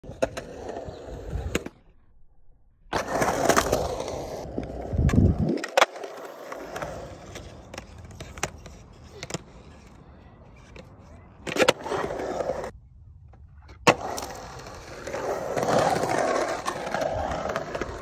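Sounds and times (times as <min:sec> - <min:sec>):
skateboard wheels rolling on concrete: 0:00.0 - 0:02.0, 0:02.9 - 0:18.0.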